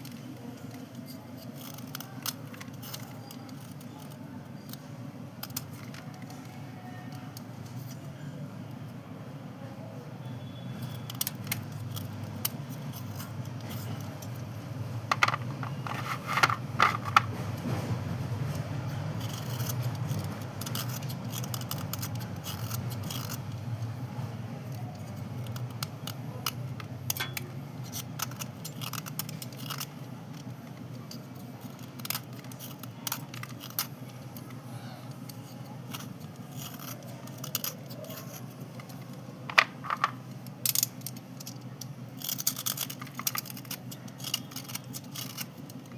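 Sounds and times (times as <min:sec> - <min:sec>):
slate pieces clicking and scraping: 0:00.0 - 0:08.1, 0:10.8 - 0:17.4, 0:18.5 - 0:23.6, 0:24.6 - 0:45.9.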